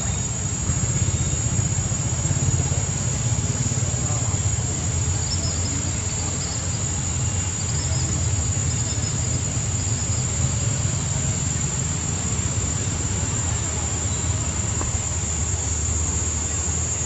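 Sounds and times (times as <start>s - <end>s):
faint chirps: 0.0s - 17.0s
high-pitched insect drone: 0.0s - 17.0s.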